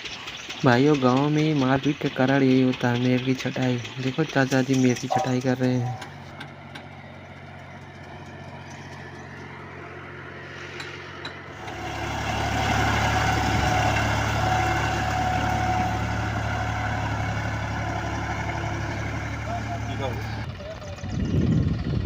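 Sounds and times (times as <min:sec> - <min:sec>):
diesel tractor engine: 0:00.0 - 0:22.0.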